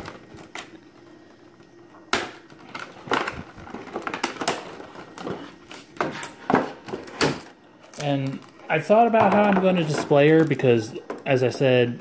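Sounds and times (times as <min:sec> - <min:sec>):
plastic packaging crinkling: 0:00.0 - 0:01.2, 0:02.3 - 0:11.6.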